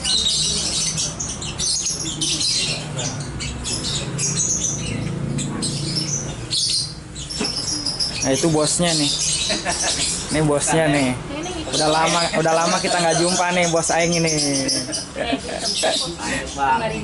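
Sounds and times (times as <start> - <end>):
lovebirds chirping and squawking: 0.0 - 17.0.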